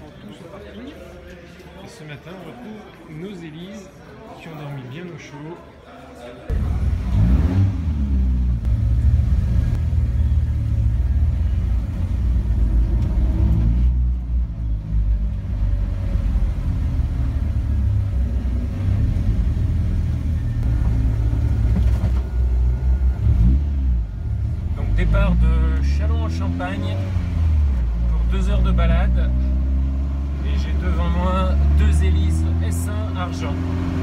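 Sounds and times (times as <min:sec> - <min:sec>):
car engine rumbling: 0:06.5 - 0:34.0.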